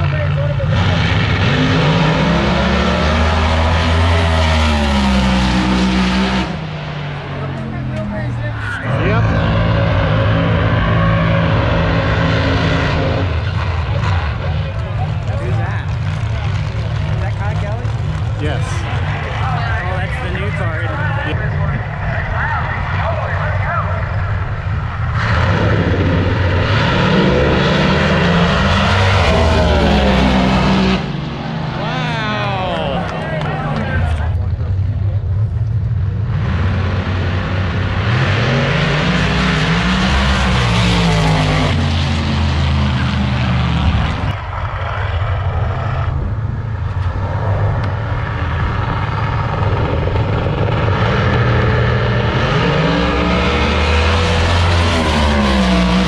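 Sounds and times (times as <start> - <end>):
drag race cars at full throttle: 0.0 - 56.0.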